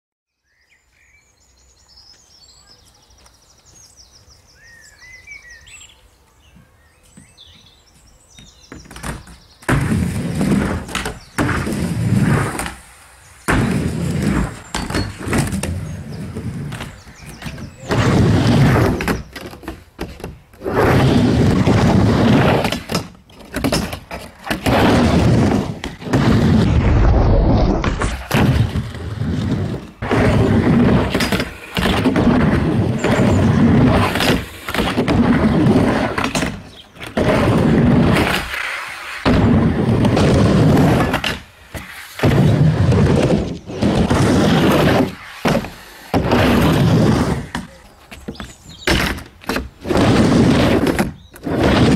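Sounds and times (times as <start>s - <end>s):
skateboard thunks and slaps: 8.4s - 51.9s
skateboard wheels rumbling on ramp: 8.4s - 51.9s.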